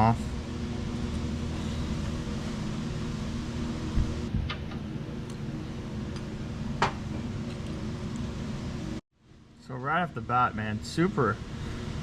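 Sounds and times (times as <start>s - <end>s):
steady fan hum: 0.0s - 12.0s.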